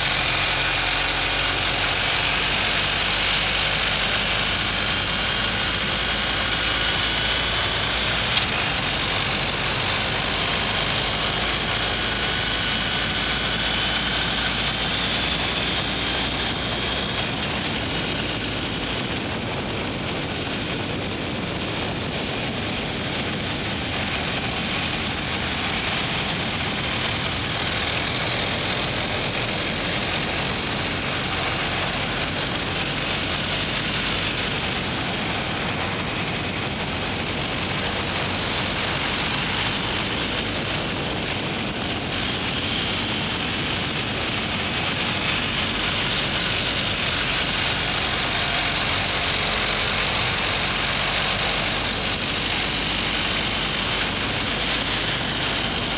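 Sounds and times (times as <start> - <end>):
motorcycle engine running: 0.0 - 55.9
road noise: 0.0 - 55.9
wind rush: 0.0 - 55.9.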